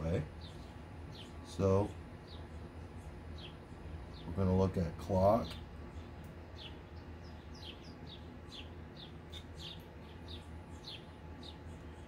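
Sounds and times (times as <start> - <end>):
steady low hum: 0.0 - 12.0
small bird chirping: 0.2 - 4.4, 5.3 - 12.0.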